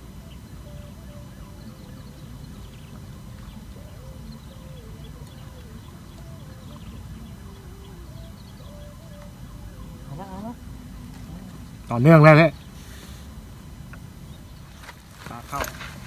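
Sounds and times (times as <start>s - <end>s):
faint high chirps: 0.0s - 16.0s
faint wavering tune: 0.0s - 16.0s.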